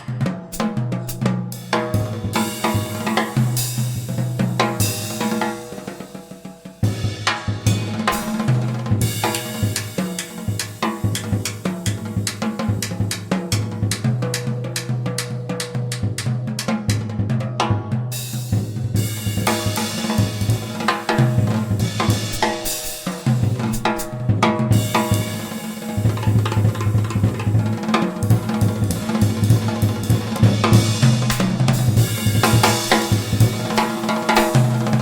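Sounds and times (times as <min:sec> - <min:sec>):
music with drums and bass: 0:00.0 - 0:35.0.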